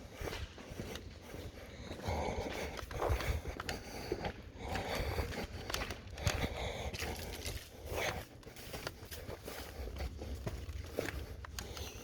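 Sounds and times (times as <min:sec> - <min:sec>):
footsteps walking: 0:00.0 - 0:12.0.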